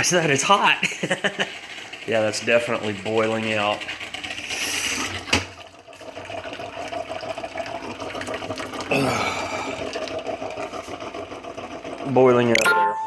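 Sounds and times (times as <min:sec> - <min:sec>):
water hissing and sputtering: 0:00.0 - 0:05.5, 0:06.8 - 0:12.5
coffee maker humming: 0:00.0 - 0:13.0.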